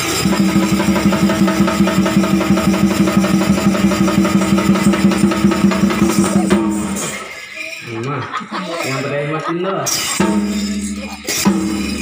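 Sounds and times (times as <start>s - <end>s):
drums beating fast: 0.0s - 12.0s.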